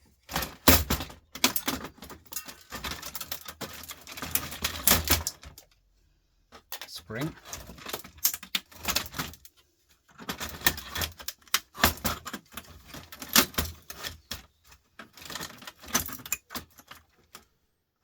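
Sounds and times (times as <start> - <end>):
small metal parts clattering: 0.3 - 5.7, 6.6 - 9.5, 10.1 - 17.4.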